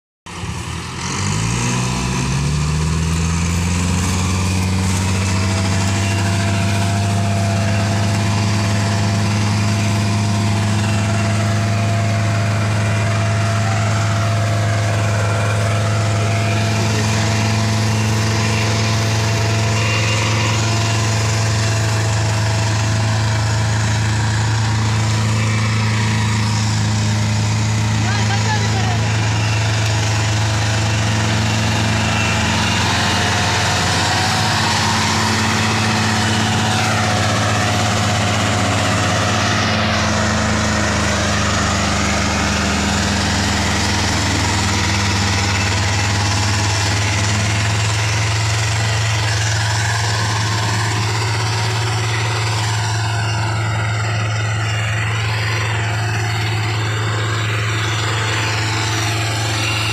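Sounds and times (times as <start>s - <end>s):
tractor diesel engine revving: 0.3s - 59.9s.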